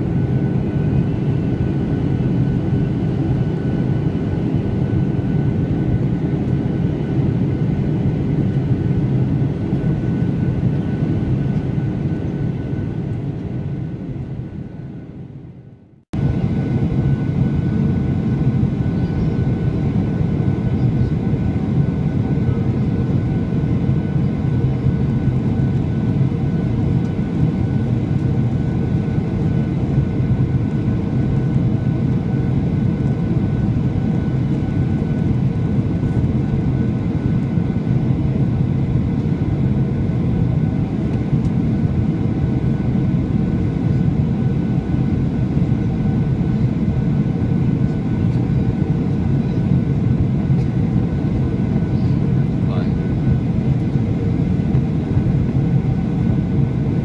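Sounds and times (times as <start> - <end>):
jet engine hum: 0.0 - 57.0.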